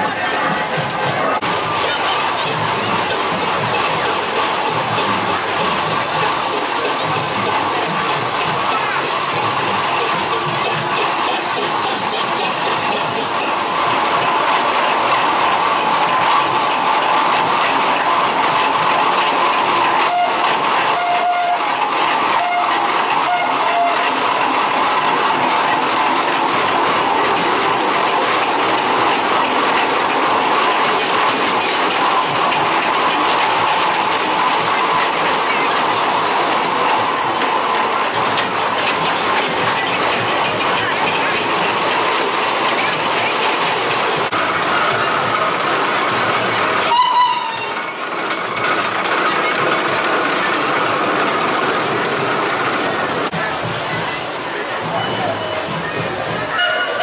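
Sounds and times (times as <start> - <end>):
iron-rimmed wheels rolling: 0.0 - 57.0
steam engine running: 0.0 - 57.0.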